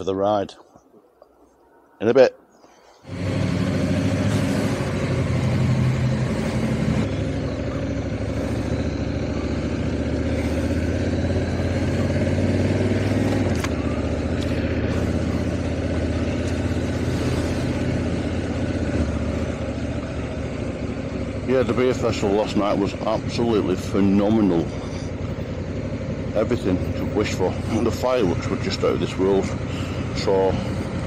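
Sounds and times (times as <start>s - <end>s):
wind and road noise: 3.0s - 31.0s
motorcycle engine running: 3.1s - 31.0s.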